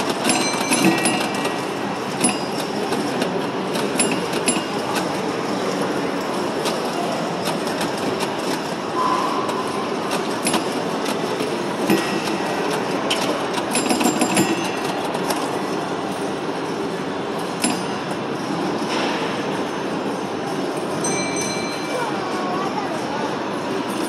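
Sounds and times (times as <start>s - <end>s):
pinball machine rattling and clicking: 0.0s - 20.2s.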